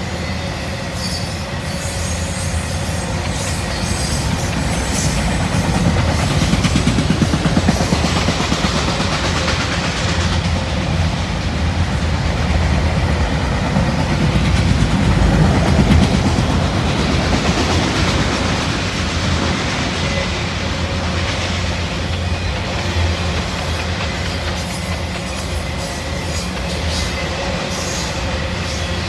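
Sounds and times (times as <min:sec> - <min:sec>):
freight train passing: 0:00.0 - 0:29.0
steel wheels clattering on rails: 0:00.8 - 0:29.0.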